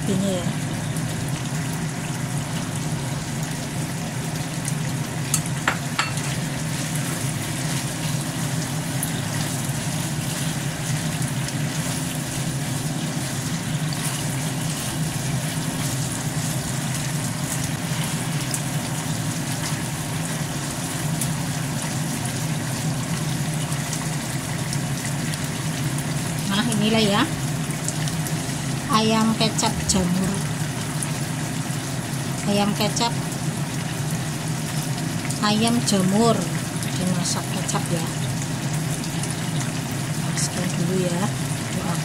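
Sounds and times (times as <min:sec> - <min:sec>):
sauce bubbling and sizzling in a pan: 0:00.0 - 0:42.0.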